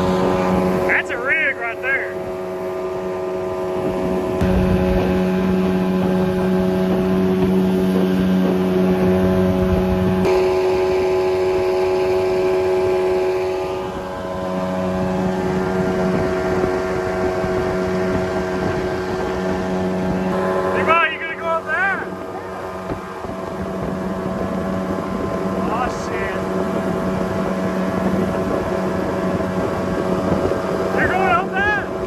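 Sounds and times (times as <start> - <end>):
jet boat motor running: 0.0 - 32.0
water and wind noise: 0.0 - 32.0.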